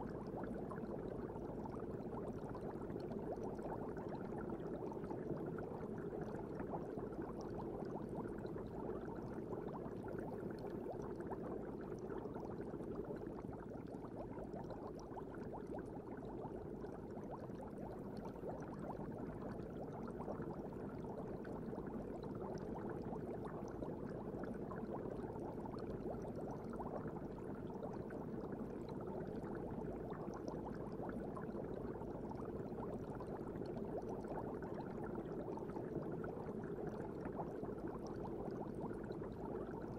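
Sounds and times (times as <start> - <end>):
aquarium water bubbling: 0.0 - 39.9.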